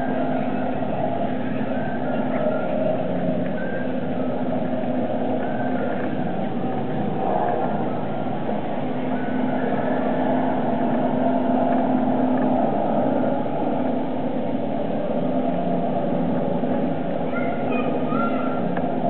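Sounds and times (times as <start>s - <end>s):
low hum: 0.0s - 19.0s
mechanical drone: 0.0s - 19.0s.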